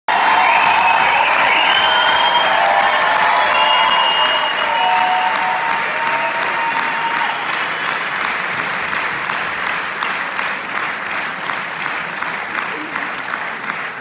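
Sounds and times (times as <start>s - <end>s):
audience applauding: 0.1s - 14.0s.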